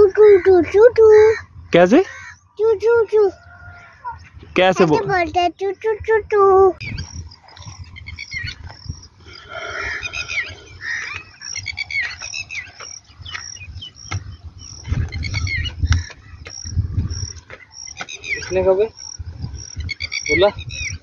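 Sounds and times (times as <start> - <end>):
birds and insects chirping: 0.0 - 21.0.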